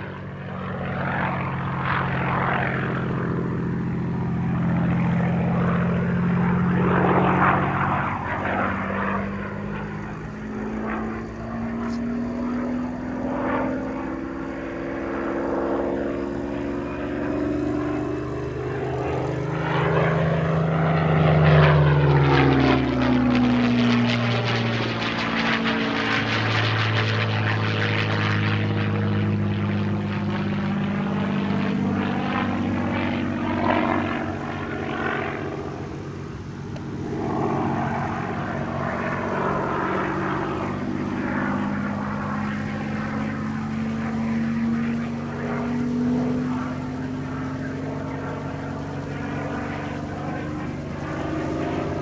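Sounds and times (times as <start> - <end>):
propeller plane engine passing: 0.0 - 52.0.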